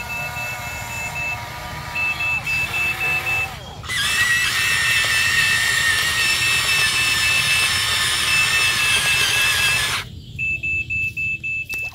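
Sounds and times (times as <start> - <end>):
electric motors whining: 0.0 - 10.1.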